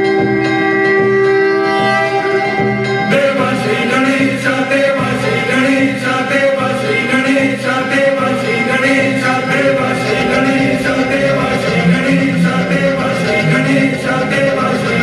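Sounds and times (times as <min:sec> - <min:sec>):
song with singing: 0:00.0 - 0:15.0.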